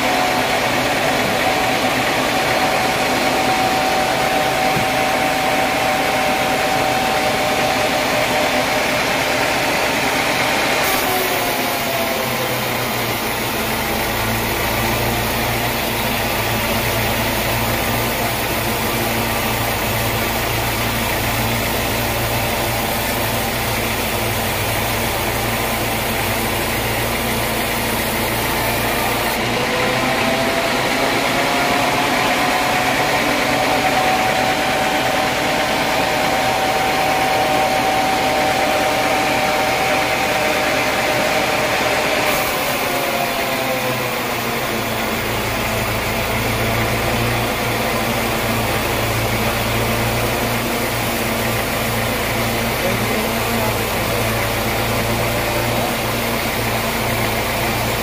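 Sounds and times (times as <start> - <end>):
band saw cutting timber: 0.0 - 58.0.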